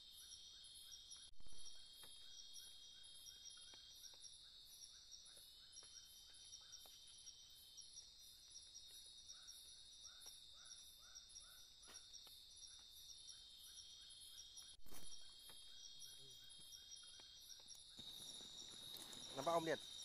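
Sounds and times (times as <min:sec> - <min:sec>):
insects droning: 0:00.0 - 0:20.0
pulsing insect trill: 0:00.0 - 0:20.0.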